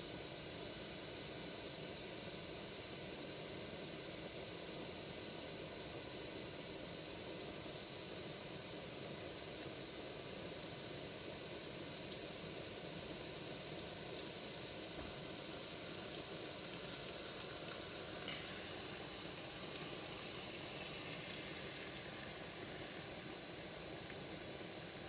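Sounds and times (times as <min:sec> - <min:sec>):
camping stove hissing: 0:00.0 - 0:25.0.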